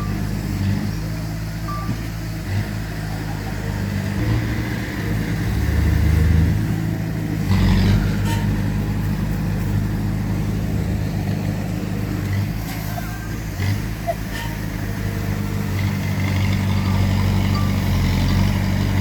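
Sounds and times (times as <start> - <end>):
heavy diesel engines running: 0.0 - 19.0.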